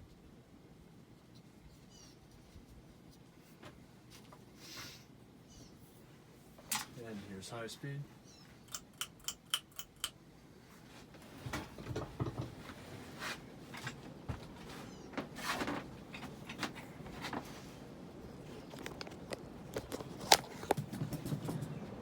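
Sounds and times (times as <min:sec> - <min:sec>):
ceiling fan motor humming: 0:00.0 - 0:22.0.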